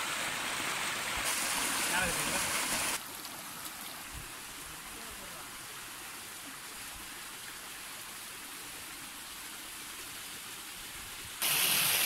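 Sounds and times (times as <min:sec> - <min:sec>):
water rushing in a channel: 0:00.0 - 0:12.0.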